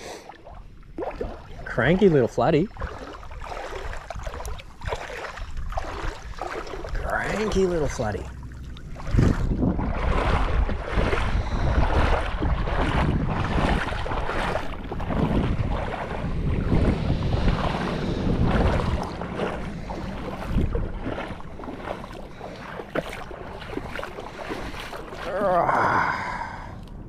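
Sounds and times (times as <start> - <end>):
wading through shallow water: 0.0 - 27.0
wind buffeting microphone: 0.4 - 27.0.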